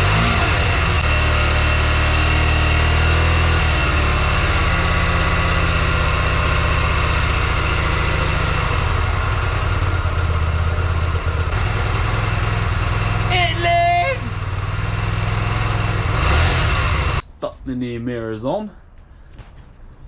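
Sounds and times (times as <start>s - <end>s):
motorcycle engine idling: 0.0s - 17.2s.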